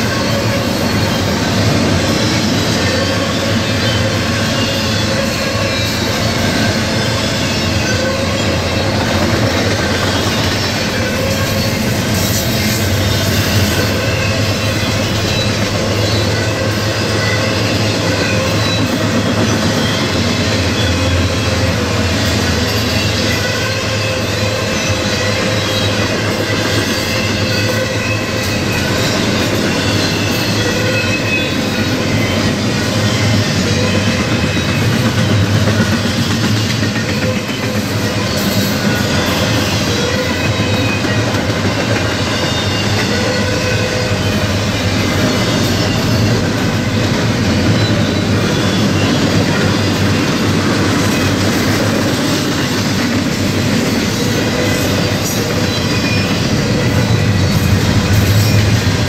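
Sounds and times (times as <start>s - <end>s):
freight train wheels rumbling: 0.0s - 59.0s
wheels squealing: 0.0s - 59.0s.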